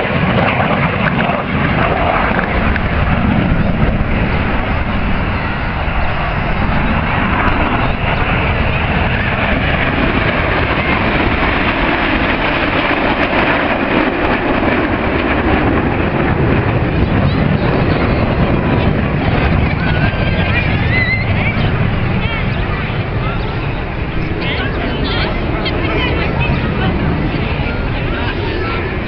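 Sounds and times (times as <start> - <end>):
jet engine rumble: 0.0 - 29.0.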